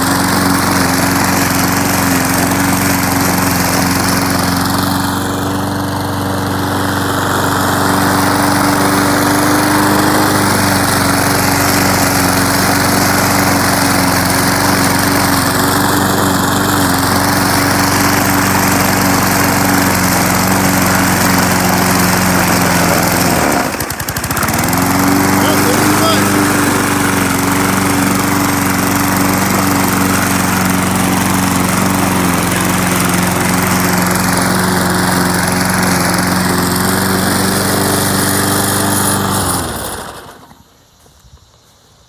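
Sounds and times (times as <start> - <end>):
lawn mower cutting grass: 0.0 - 41.7.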